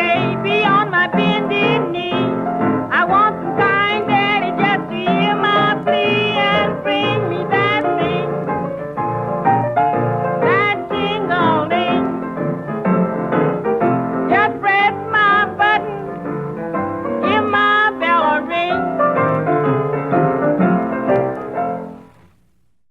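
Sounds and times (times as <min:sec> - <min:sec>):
blues band playing: 0:00.0 - 0:22.1
piano: 0:00.0 - 0:22.8.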